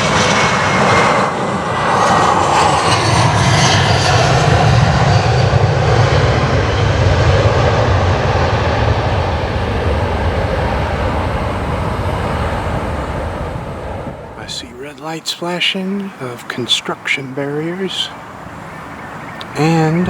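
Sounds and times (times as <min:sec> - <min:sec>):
jet aircraft engines passing: 0:00.0 - 0:20.0.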